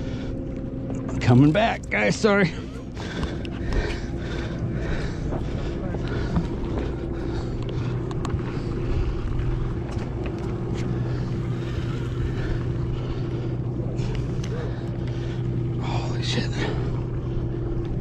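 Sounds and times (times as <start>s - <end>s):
boat machinery humming: 0.0s - 18.0s.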